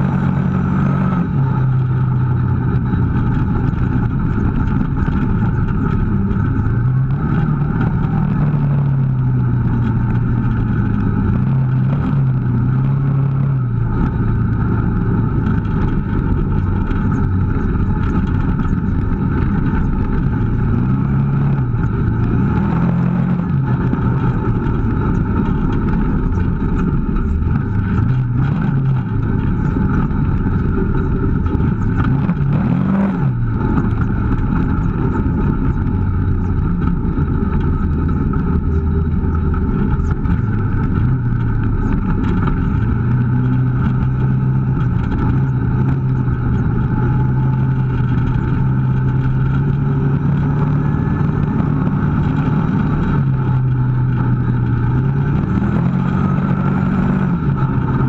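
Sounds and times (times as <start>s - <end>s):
atv engine running: 0.0s - 58.0s
engine revving: 0.0s - 58.0s.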